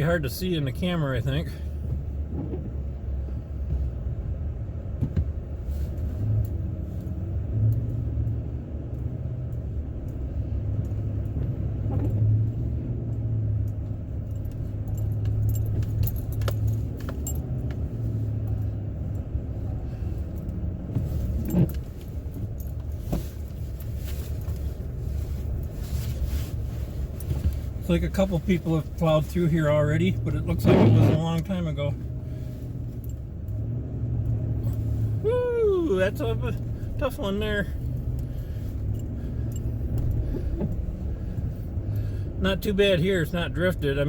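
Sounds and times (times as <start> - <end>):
light rattles and clicks: 0.2 - 35.2, 35.8 - 42.8
pickup truck engine droning: 5.6 - 44.0.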